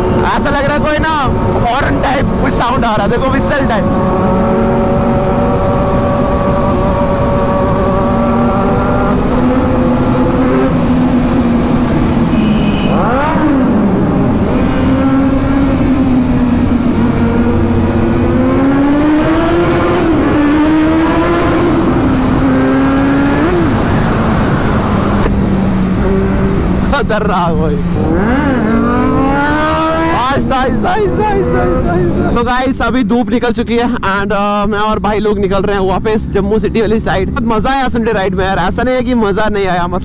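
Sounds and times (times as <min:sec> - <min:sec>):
motorcycle engines echoing in tunnel: 0:00.0 - 0:32.4.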